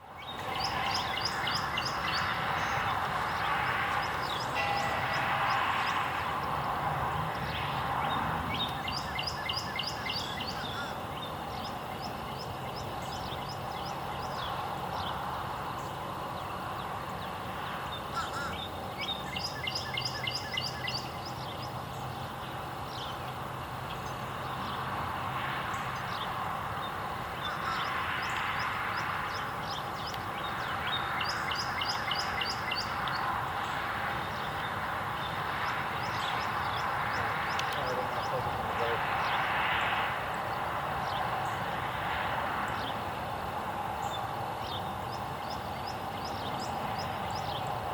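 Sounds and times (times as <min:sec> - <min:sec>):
background noise: 0:00.0 - 0:47.9
songbird singing: 0:00.0 - 0:47.9.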